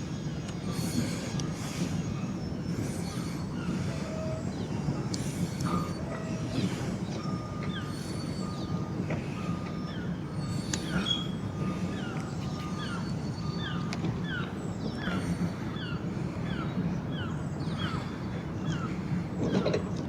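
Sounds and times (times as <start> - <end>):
reversing vehicle beeps: 0.0 - 20.0
small birds chirping: 0.4 - 18.9.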